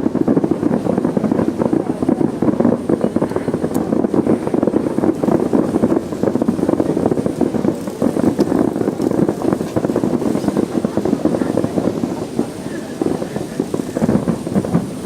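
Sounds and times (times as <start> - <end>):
distant fireworks booms and crackles: 0.0 - 15.0.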